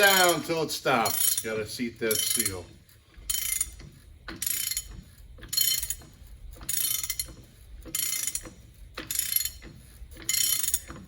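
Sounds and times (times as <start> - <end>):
ratchet wrench clicking: 0.0 - 11.0.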